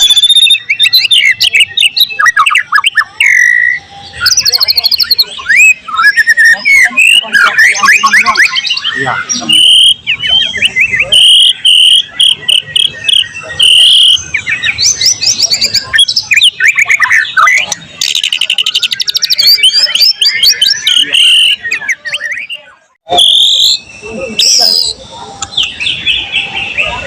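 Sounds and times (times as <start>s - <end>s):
bird singing varied whistles: 0.0s - 27.0s.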